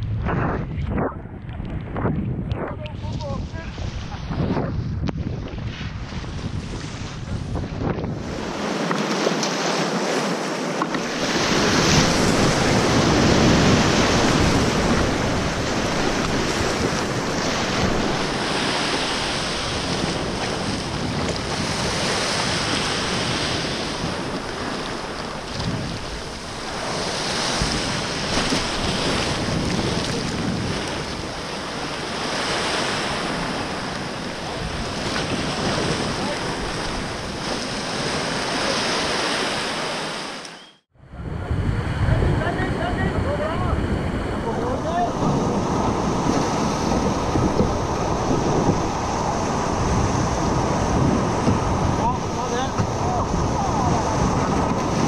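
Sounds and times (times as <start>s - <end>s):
water rushing around kayak bow: 0.0s - 55.0s
wind noise on microphone: 0.0s - 55.0s
surf breaking over rocks: 5.4s - 55.0s.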